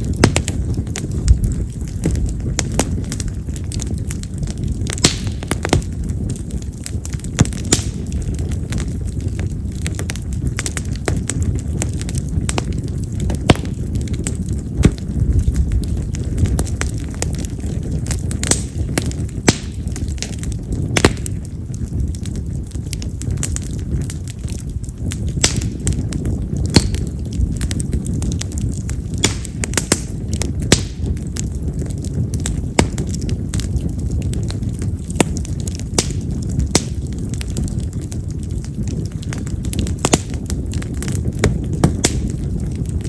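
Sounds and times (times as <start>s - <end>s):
campfire flames rushing: 0.0s - 43.0s
firewood crackles and pops: 0.0s - 43.0s.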